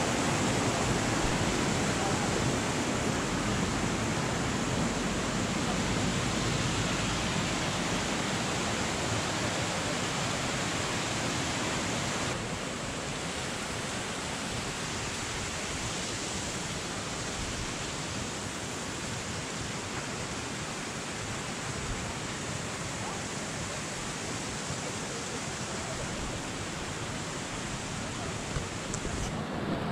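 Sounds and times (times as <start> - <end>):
river water rushing over cascades: 0.0 - 29.9.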